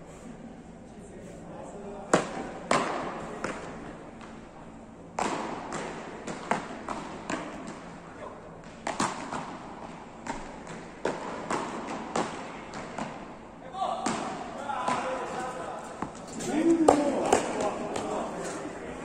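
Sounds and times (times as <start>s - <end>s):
paddles hitting ball: 2.1s - 4.4s, 5.1s - 8.0s, 8.6s - 18.9s.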